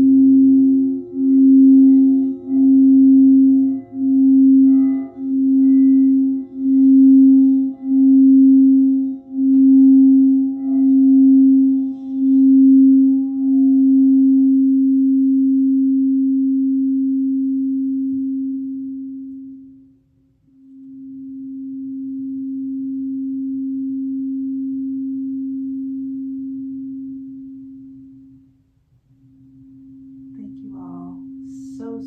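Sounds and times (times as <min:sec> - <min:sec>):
singing bowl low tone: 0:00.0 - 0:28.5, 0:29.3 - 0:32.0.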